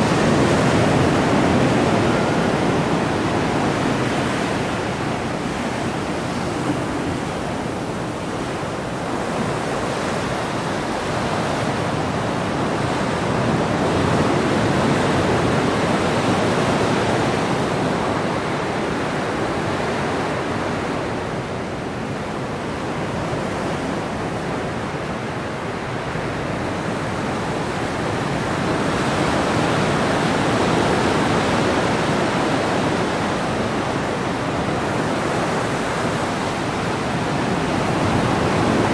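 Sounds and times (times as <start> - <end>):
ocean surf washing: 0.0 - 38.9.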